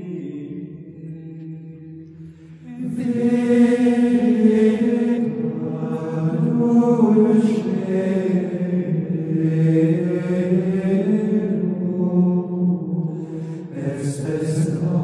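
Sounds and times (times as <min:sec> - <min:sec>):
monastic chant: 0:00.0 - 0:15.0.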